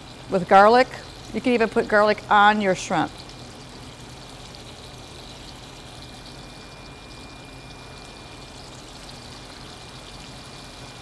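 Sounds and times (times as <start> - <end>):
shrimp sizzling in frying pan: 0.0 - 11.0.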